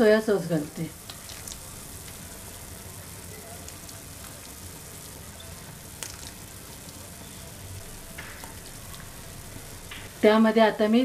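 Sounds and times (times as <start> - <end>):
broth boiling and bubbling: 0.0 - 11.0.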